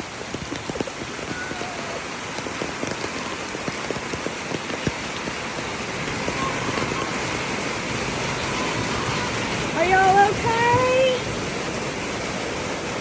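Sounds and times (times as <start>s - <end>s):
heavy rain: 0.0s - 13.0s
raindrops ticking close by: 0.0s - 13.0s.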